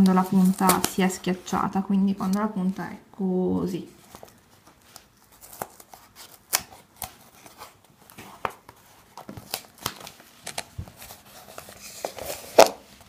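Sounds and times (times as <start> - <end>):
paper rustling and crinkling: 0.0 - 1.6, 4.0 - 13.0.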